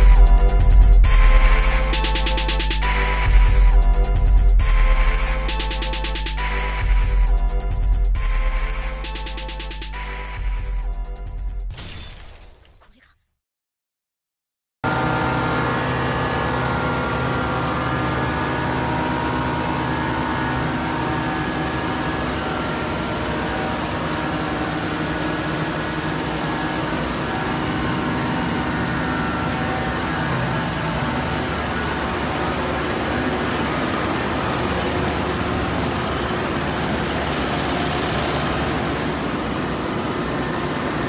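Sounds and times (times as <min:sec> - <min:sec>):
diesel truck engine running: 0:00.0 - 0:11.6, 0:14.9 - 0:41.0.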